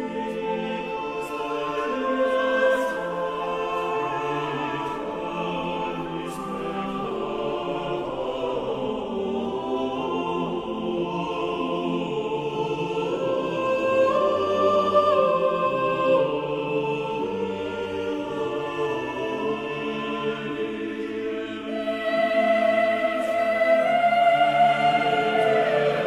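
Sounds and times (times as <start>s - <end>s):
choir singing held chords: 0.0s - 26.0s.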